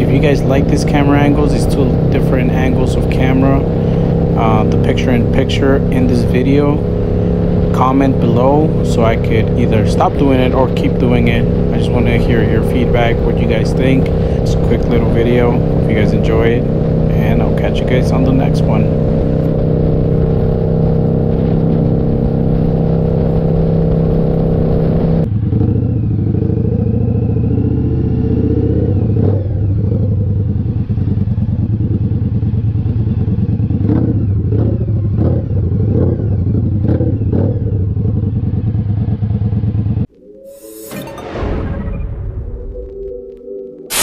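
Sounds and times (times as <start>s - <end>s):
motorcycle engine: 0.0s - 40.2s.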